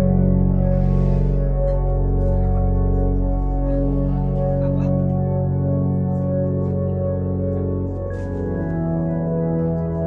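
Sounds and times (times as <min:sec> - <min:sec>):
organ-like keyboard chords: 0:00.0 - 0:10.0.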